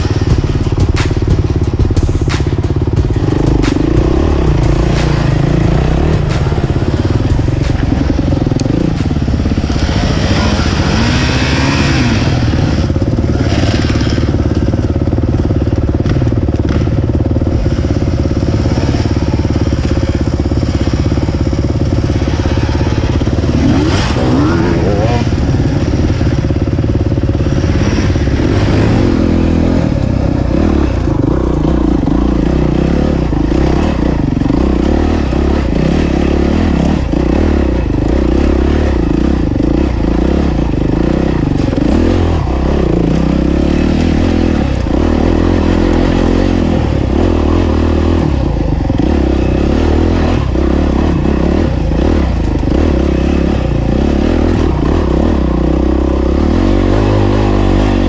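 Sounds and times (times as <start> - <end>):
bike rattling and scraping: 0.0 - 58.0
dirt bike engine revving: 0.0 - 58.0.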